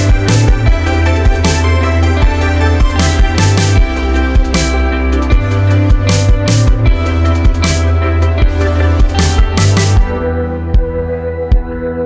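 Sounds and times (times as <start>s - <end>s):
deep beat: 0.0s - 12.0s.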